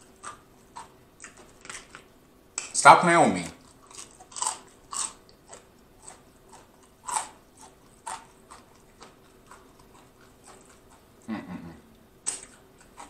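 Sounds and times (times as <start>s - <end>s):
chewing crunchy fried chicken: 0.0s - 2.2s, 3.4s - 11.4s, 12.2s - 13.0s.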